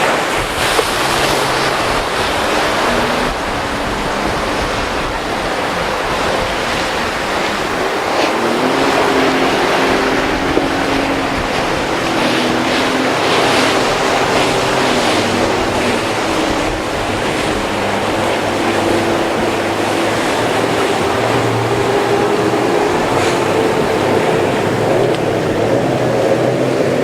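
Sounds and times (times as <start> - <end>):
hulls splashing on waves: 0.0 - 27.0
outboard motorboat engines: 0.0 - 27.0
rushing water and surf: 0.0 - 27.0.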